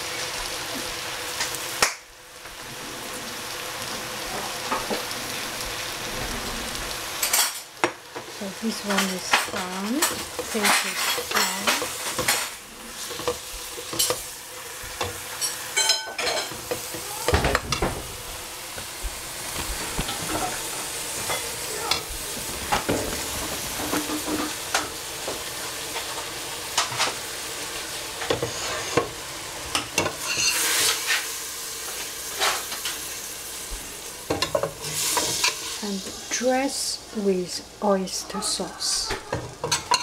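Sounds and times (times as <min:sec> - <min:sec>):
lettuce sizzling in a pot: 0:00.0 - 0:40.0
utensils clinking and scraping pot: 0:03.8 - 0:05.2, 0:05.8 - 0:37.6, 0:38.2 - 0:40.0.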